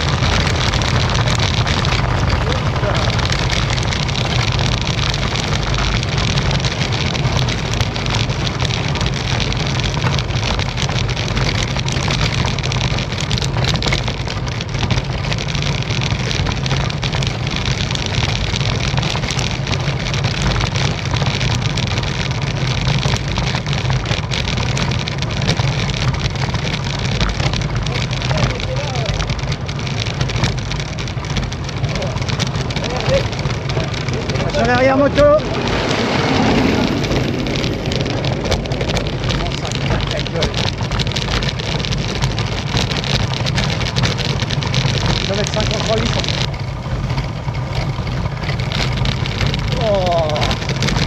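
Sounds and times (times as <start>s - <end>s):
bike rattling over cobblestones: 0.0s - 51.0s
low rumble: 0.0s - 51.0s.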